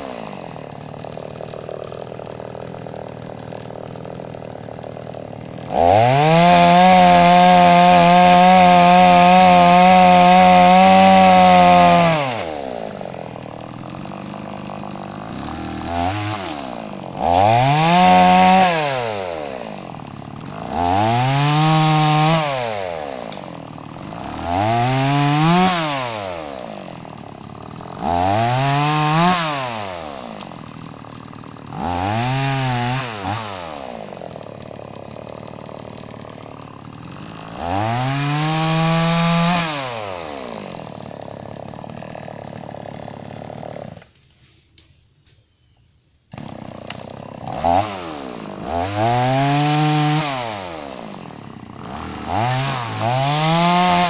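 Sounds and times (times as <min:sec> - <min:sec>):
chainsaw cutting log: 0:00.0 - 0:45.0, 0:46.3 - 0:54.0.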